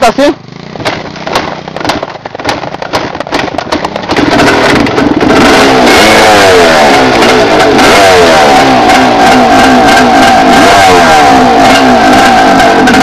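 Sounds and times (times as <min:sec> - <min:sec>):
motorcycle engine starting and revving: 0:00.0 - 0:13.0.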